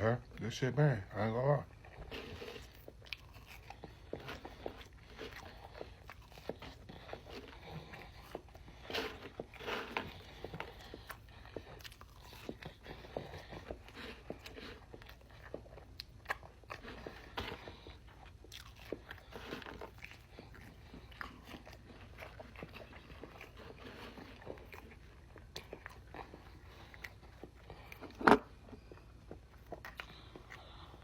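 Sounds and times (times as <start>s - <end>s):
crunchy chewing: 1.3s - 31.0s.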